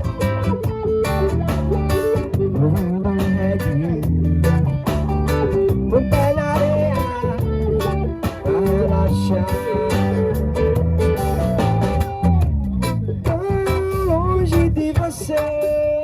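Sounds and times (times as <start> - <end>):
bass and drums groove: 0.0 - 16.0
guitar: 0.0 - 16.0.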